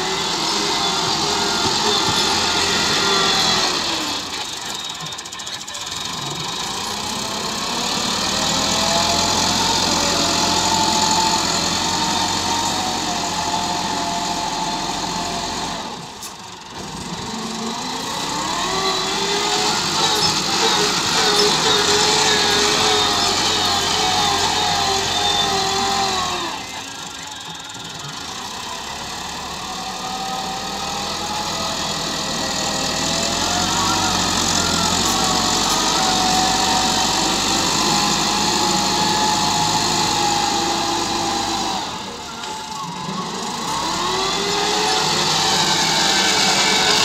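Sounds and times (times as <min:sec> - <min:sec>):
tractor engine under load: 0:00.0 - 0:47.0.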